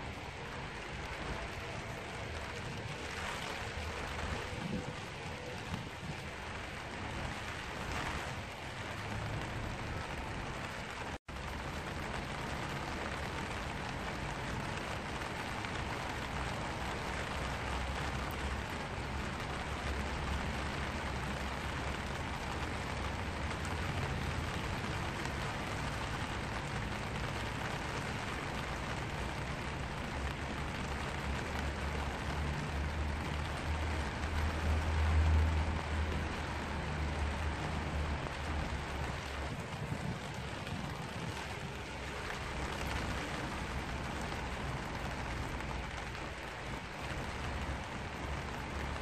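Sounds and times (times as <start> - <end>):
rain pattering on umbrella: 0.0 - 49.0.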